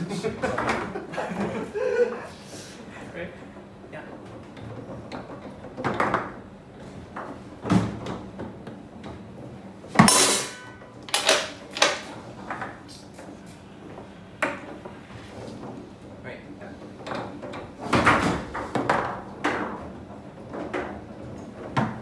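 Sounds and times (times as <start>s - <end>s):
foosball ball knocking: 0.4s - 1.6s, 4.1s - 16.2s, 16.8s - 22.0s.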